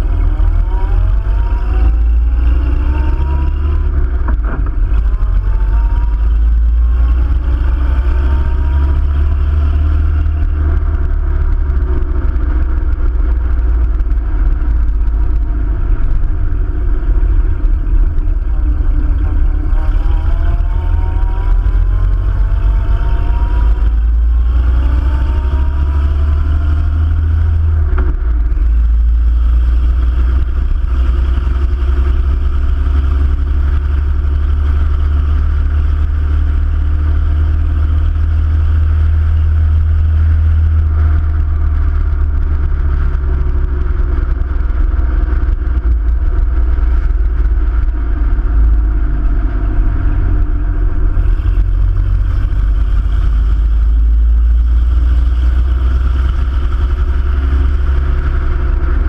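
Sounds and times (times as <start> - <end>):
car engine accelerating: 0.0 - 59.0
wind rumble: 0.0 - 59.0.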